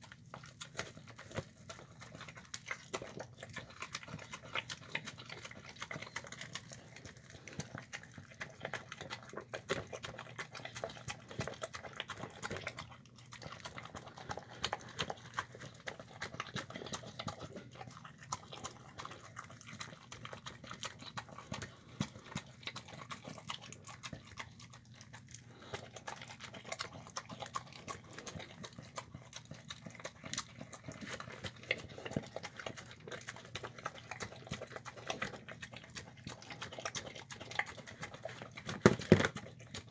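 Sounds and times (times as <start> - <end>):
dog chewing and licking: 0.0 - 39.9.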